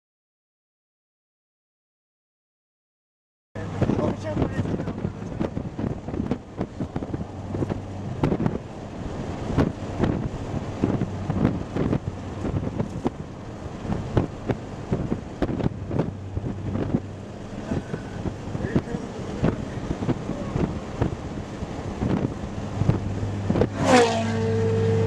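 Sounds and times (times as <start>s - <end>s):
wind buffeting microphone: 3.6s - 25.0s.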